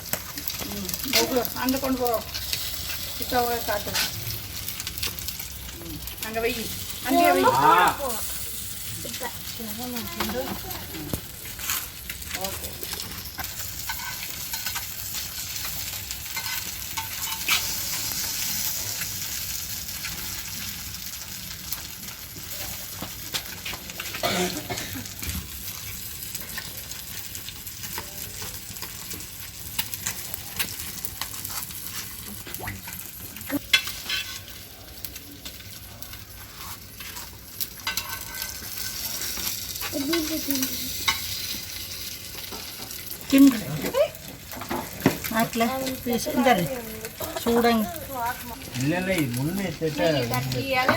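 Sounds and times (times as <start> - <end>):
fish sizzling in oil: 0.0 - 50.9.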